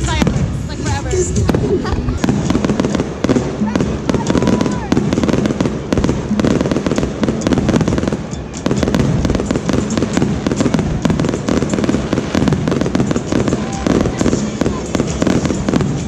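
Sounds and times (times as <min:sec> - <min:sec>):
fireworks cracking and popping: 0:00.0 - 0:16.0.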